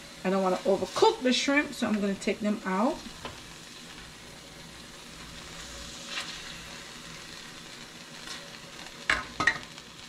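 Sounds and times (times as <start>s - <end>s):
shrimp sizzling in oil: 0.0s - 10.0s.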